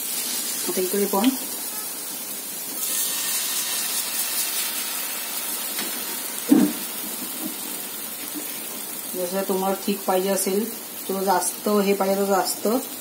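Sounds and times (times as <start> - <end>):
batter sizzling on griddle: 0.0 - 13.0.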